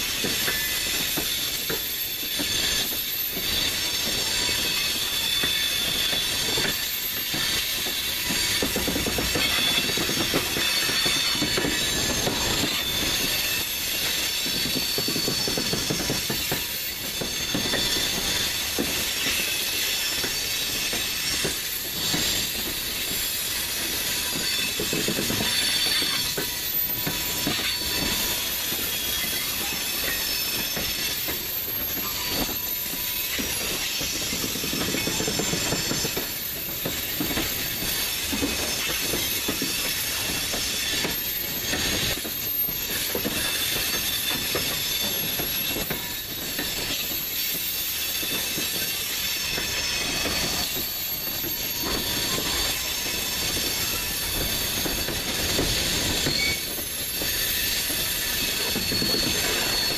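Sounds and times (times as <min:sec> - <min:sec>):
high wheel squeal: 0:00.0 - 0:59.9.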